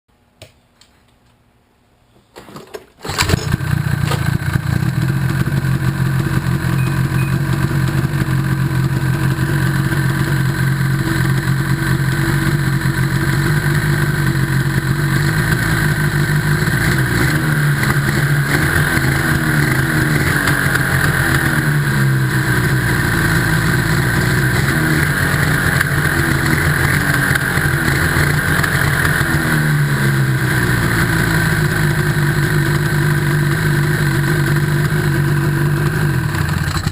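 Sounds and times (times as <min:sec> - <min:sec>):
snowmobile engine running: 0:03.1 - 0:36.9.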